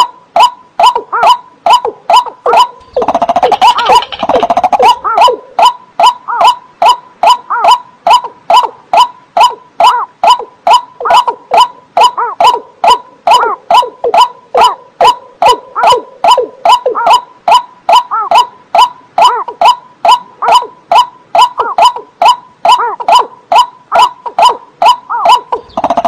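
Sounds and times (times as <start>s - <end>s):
water bird calling kok notes: 0.0s - 26.0s.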